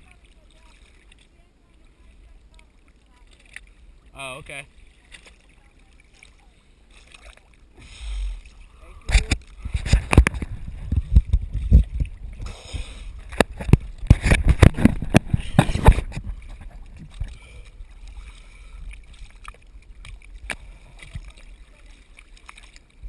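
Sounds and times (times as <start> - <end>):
water lapping: 0.0 - 23.0
water splashing and sloshing: 0.0 - 23.0.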